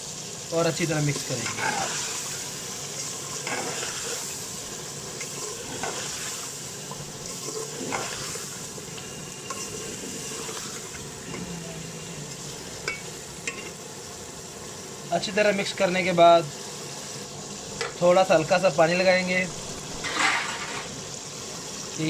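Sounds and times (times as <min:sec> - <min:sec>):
curry sizzling in a pot: 0:00.0 - 0:22.0.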